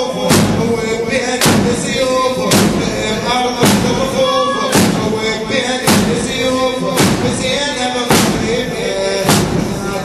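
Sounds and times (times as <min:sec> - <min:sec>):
crowd chanting a lament: 0:00.0 - 0:10.0
chest beating slaps in unison: 0:00.2 - 0:00.8, 0:01.4 - 0:09.8.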